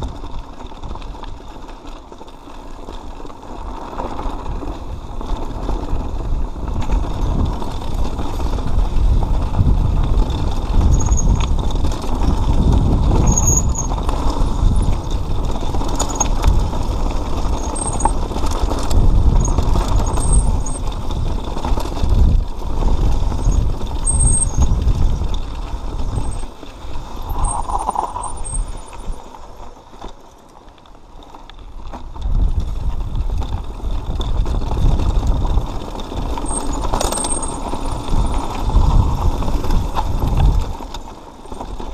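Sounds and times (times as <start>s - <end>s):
bike rattling: 0.0s - 41.9s
wind buffeting microphone: 4.5s - 29.6s, 31.8s - 41.9s.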